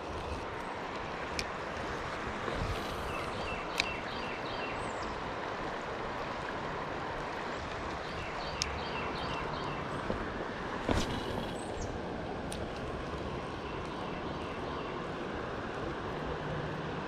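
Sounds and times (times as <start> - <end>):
flowing creek water: 0.0 - 17.0.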